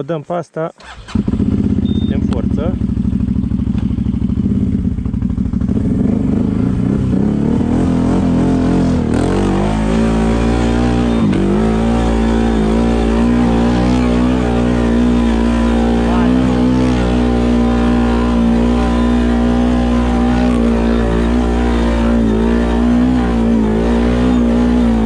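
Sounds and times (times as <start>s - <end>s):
atv engine revving: 0.8s - 25.0s.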